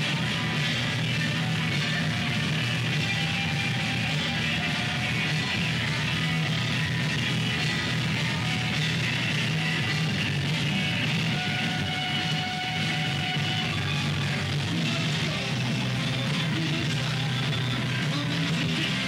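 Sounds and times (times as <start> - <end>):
punk rock band with electric guitars: 0.0 - 19.0.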